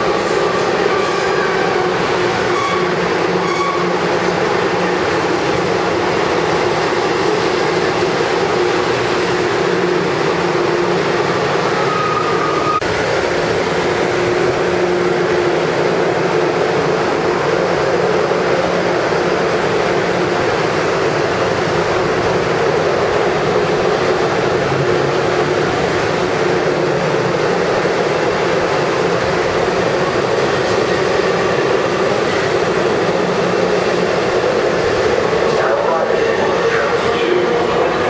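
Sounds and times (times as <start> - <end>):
constant hum from train cars: 0.0 - 38.0
train wheels rumbling on rails: 0.0 - 38.0.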